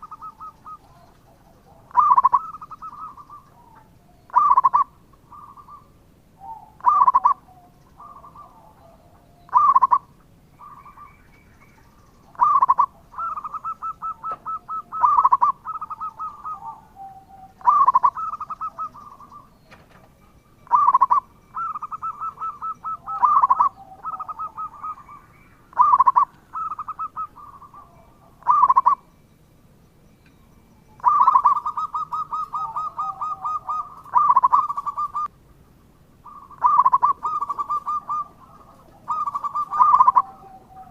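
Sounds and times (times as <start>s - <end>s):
dove cooing: 0.0s - 29.1s, 30.9s - 40.9s.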